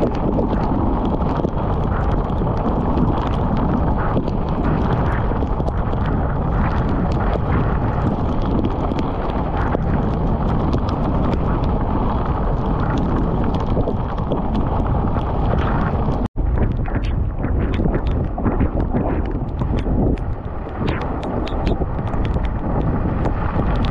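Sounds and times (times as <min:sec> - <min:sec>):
heavy rain ticking: 0:00.0 - 0:23.9
wind buffeting microphone: 0:00.0 - 0:23.9.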